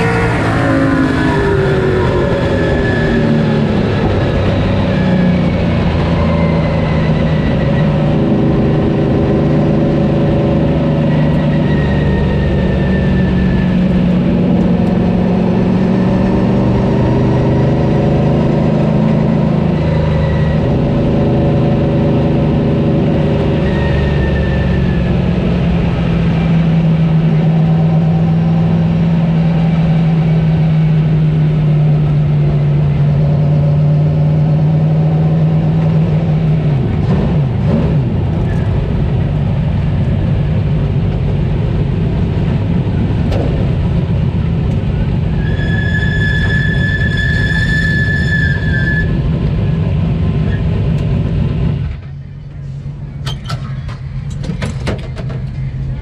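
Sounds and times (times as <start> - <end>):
racing car engine: 0.0 - 56.0
wind and road noise: 0.0 - 56.0.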